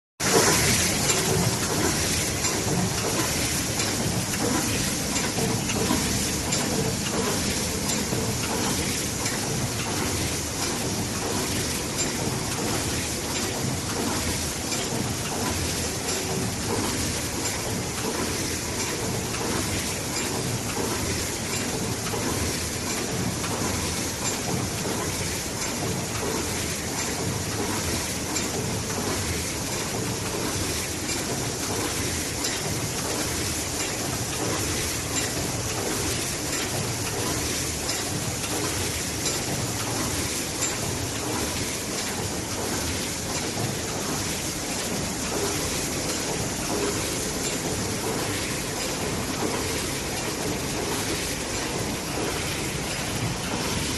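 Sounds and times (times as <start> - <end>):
filling machine hiss and clatter: 0.2 - 53.9.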